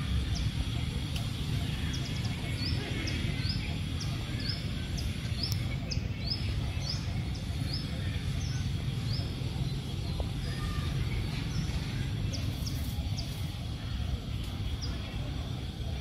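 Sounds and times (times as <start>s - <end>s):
bird chirping: 0.0s - 16.0s
low outdoor rumble: 0.0s - 16.0s.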